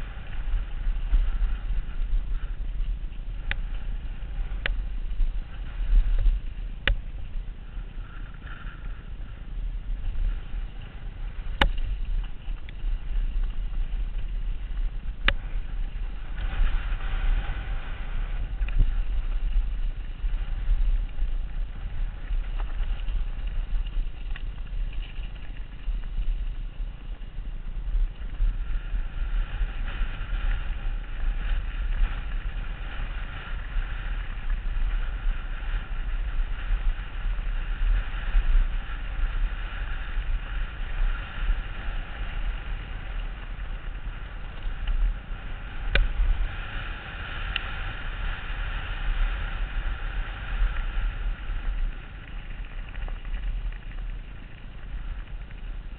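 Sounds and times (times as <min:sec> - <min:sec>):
bike tyres on gravel: 0:00.0 - 0:55.9
wind buffeting microphone: 0:00.0 - 0:55.9.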